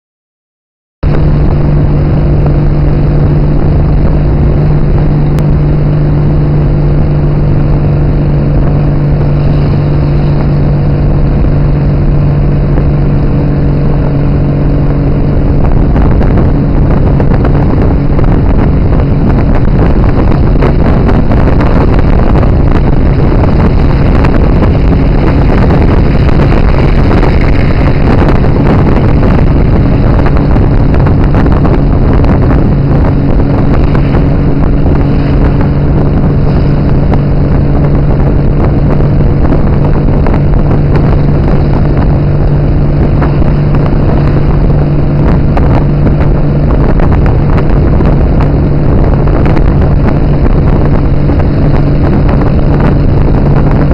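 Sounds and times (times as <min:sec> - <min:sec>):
road noise: 0:01.0 - 0:53.9
wind buffeting microphone: 0:01.0 - 0:53.9.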